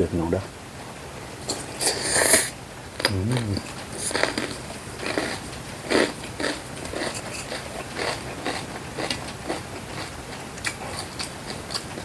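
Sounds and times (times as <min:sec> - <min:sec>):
person chewing wet bites: 0:01.4 - 0:12.0.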